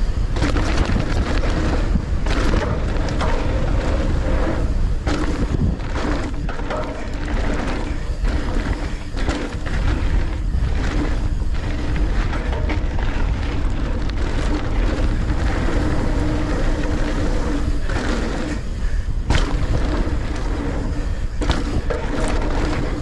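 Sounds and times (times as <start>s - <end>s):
bike clicks and rattles: 0.0s - 23.0s
tyres rolling on dirt: 0.0s - 23.0s
wind rushing over microphone: 0.0s - 23.0s.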